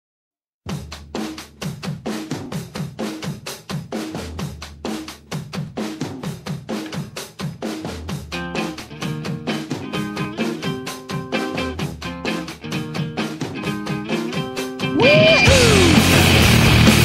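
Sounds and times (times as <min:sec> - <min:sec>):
drum kit playing fast beat: 0:00.7 - 0:17.0.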